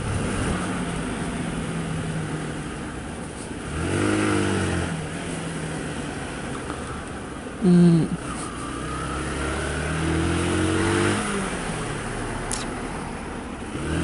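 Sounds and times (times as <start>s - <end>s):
motorcycle engine revving: 0.0s - 7.0s, 8.2s - 12.6s, 13.6s - 14.0s
wind and road noise: 0.0s - 14.0s.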